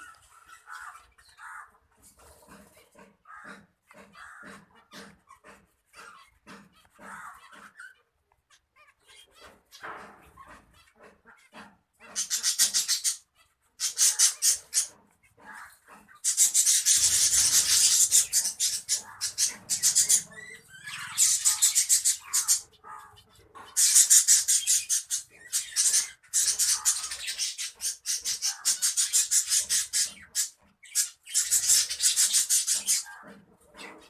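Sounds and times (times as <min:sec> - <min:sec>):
finches chattering: 0:00.0 - 0:34.0.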